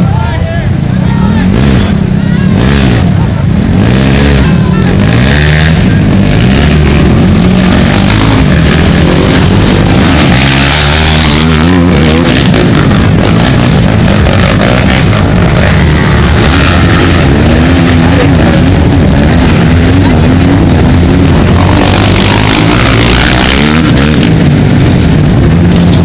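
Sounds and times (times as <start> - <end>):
atv engines revving: 0.0 - 26.0.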